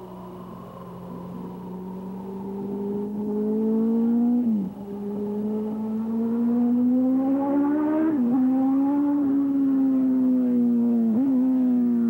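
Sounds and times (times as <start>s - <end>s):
motorcycle engine at high revs: 0.6s - 12.0s.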